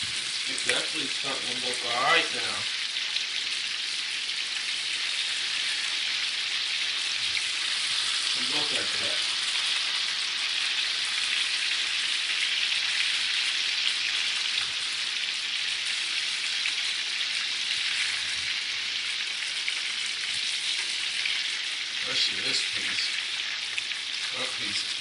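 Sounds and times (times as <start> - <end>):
chicken frying in hot grease: 0.0 - 25.0.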